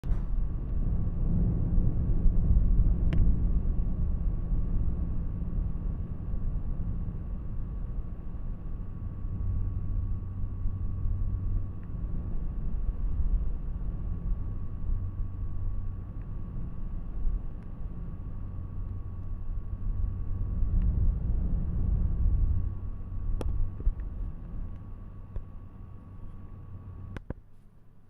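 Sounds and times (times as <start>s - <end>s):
computer fan whirring: 0.0s - 28.0s.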